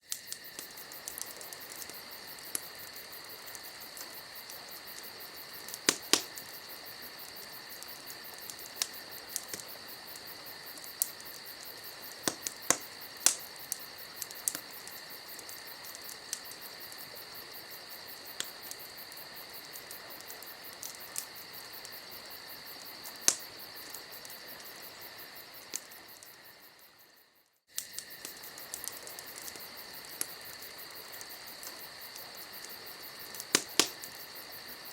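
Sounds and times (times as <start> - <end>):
campfire wood crackling: 0.0 - 34.9
crickets chirring: 0.0 - 34.9.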